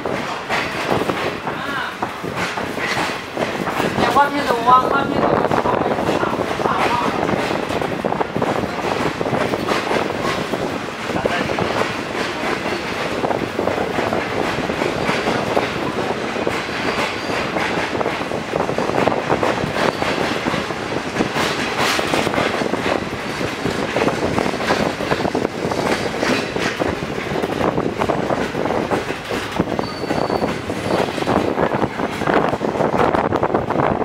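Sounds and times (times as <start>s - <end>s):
train wheels clacking on rails: 0.0s - 34.0s.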